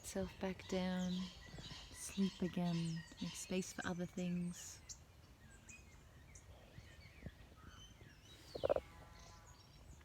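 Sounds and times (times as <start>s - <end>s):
faint bird chirps: 0.6s - 10.0s.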